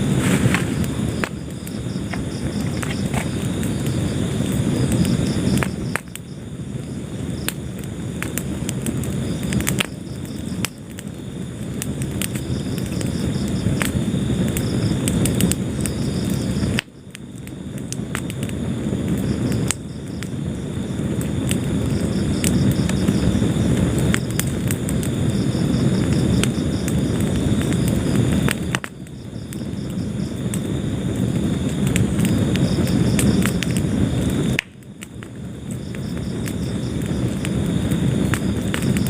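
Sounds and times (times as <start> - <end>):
fire roaring: 0.0 - 39.0
logs crackling and popping: 0.0 - 39.0.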